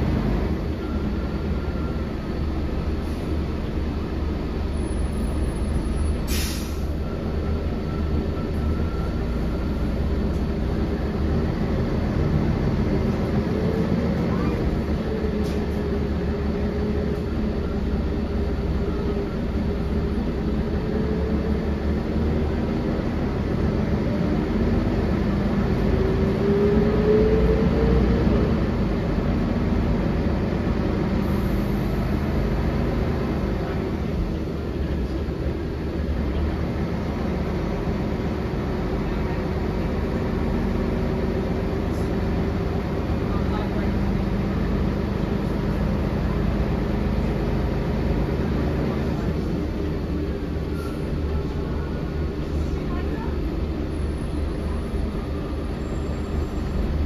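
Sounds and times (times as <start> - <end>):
bus diesel engine droning: 0.0 - 57.0
road and body rumble: 0.0 - 57.0.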